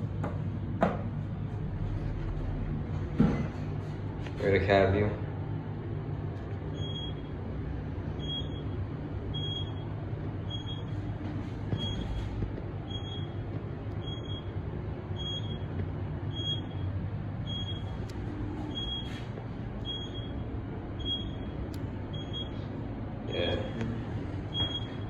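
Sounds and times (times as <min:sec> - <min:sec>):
elevator hum and rumble: 0:00.0 - 0:25.0.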